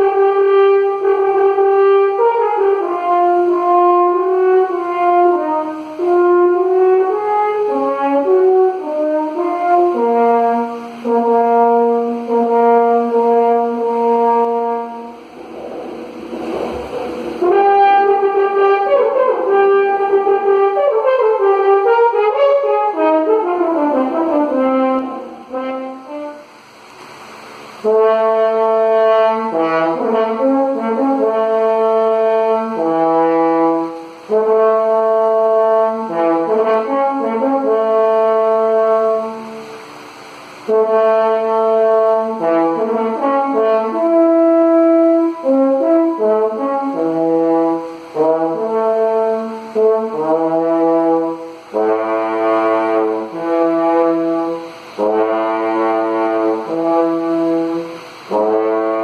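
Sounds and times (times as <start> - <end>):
french horn solo: 0.0 - 59.0.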